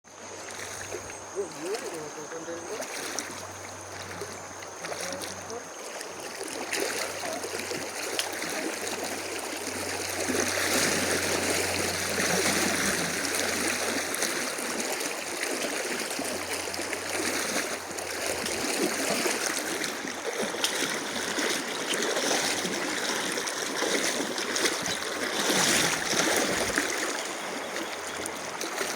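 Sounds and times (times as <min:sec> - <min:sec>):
river water rushing: 0:00.1 - 0:28.9.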